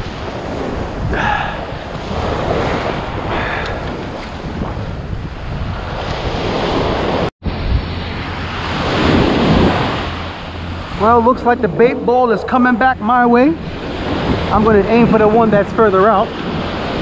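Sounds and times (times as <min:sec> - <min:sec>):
surf washing up sand: 0:00.0 - 0:17.0
wind buffeting microphone: 0:00.0 - 0:17.0.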